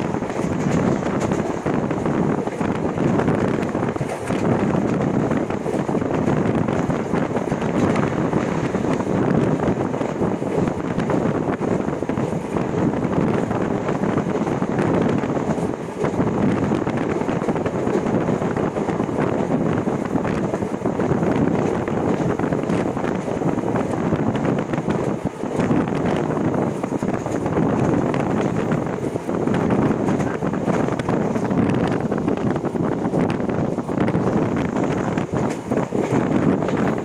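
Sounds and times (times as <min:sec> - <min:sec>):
train running noise: 0:00.0 - 0:37.0
wind buffeting microphone: 0:00.0 - 0:37.0.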